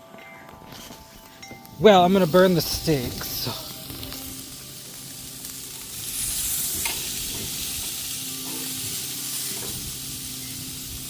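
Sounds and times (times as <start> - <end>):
steaks sizzling on a grill: 1.8 - 11.0.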